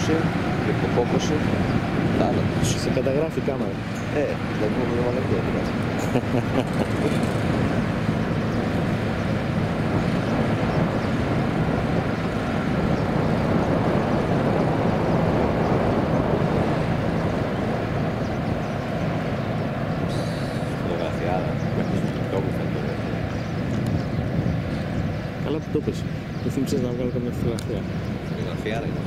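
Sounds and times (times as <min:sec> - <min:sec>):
engine droning: 0:00.0 - 0:29.0.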